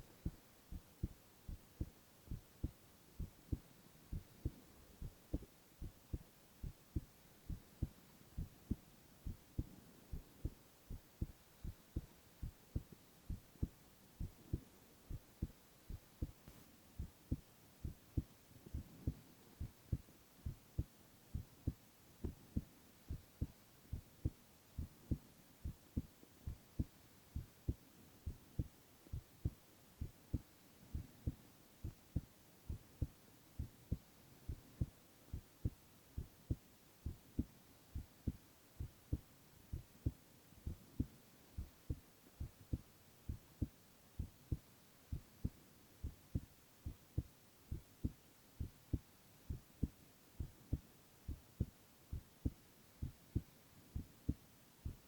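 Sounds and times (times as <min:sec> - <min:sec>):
faint hiss: 0:00.0 - 0:55.0
heartbeat thumps: 0:00.0 - 0:55.0.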